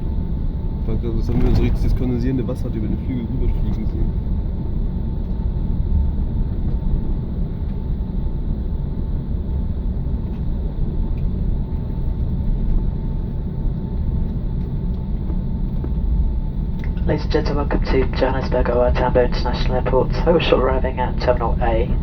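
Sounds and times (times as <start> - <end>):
aircraft cabin rumble: 0.0 - 22.0
faint steady whine: 0.0 - 22.0.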